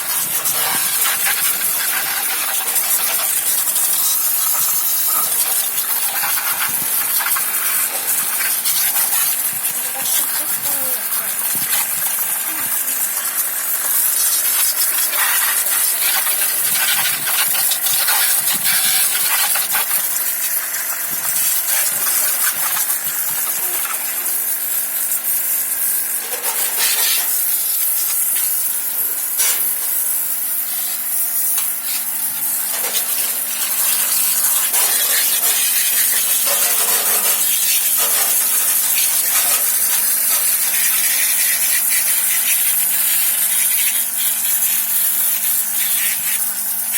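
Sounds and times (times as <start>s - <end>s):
hissing spray: 0.0s - 46.9s.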